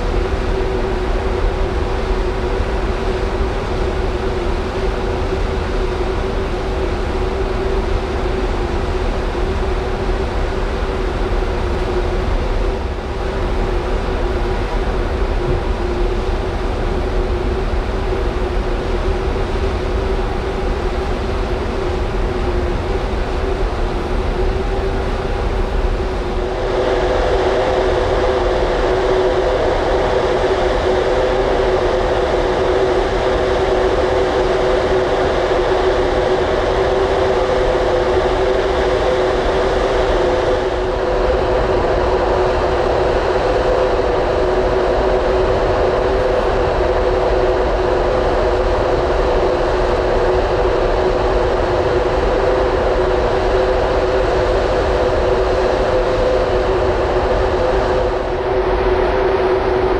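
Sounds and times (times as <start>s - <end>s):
ship machinery drone: 0.0s - 59.9s.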